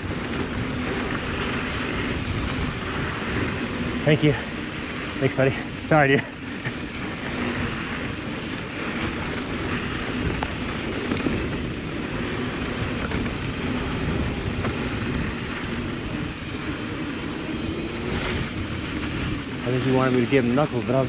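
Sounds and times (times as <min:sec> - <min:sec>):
bike tyres rolling on dirt: 0:00.0 - 0:21.0
wind rushing over microphone: 0:00.0 - 0:21.0.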